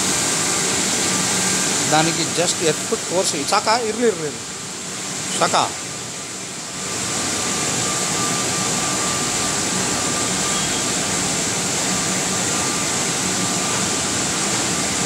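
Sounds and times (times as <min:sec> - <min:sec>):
blower rushing air: 0:00.0 - 0:15.0
faint steady whine: 0:00.0 - 0:15.0.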